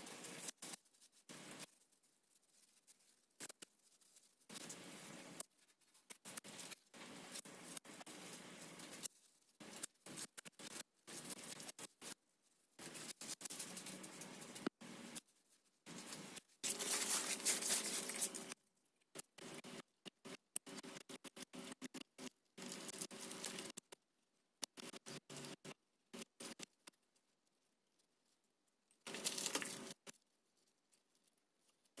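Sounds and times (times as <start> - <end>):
paper and tape crinkling: 0.0 - 18.6, 20.8 - 24.0, 24.8 - 32.0.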